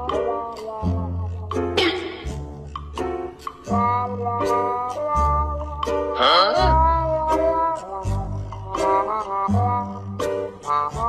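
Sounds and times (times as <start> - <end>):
background music with bass: 0.0 - 11.0.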